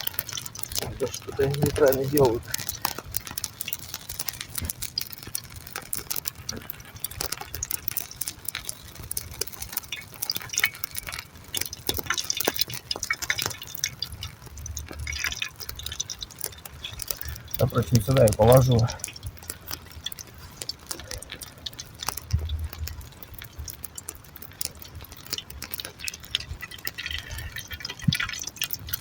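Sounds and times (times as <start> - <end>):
light clicks and ticks: 0.0 - 29.0.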